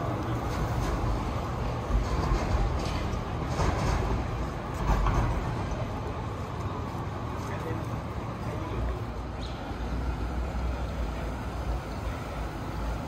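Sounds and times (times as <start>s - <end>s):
low traffic rumble: 0.0s - 13.0s
tram clattering bumps: 0.0s - 13.0s.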